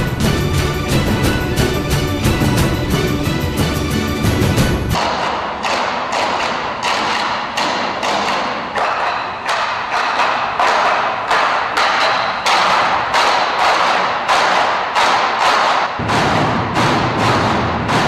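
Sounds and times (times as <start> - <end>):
large drums beating in unison: 0.0 - 18.0.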